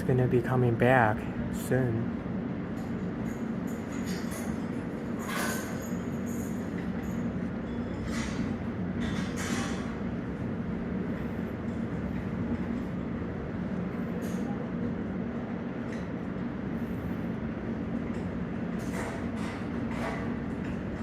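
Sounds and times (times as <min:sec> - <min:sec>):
ship engine rumble: 0:00.0 - 0:21.0.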